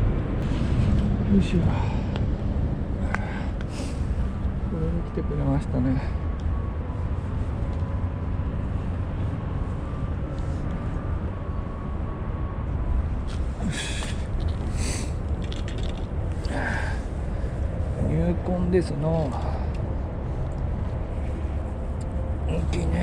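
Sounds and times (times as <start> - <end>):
wind and city rumble: 0.0 - 23.0.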